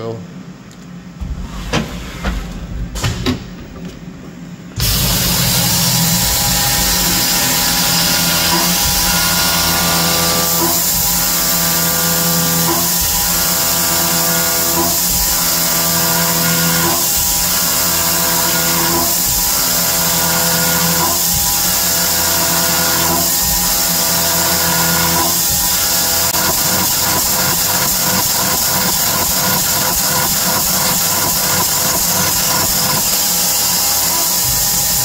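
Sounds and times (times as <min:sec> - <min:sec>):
end mill cutting steel: 0:04.8 - 0:35.0
milling spindle whine: 0:04.8 - 0:35.0.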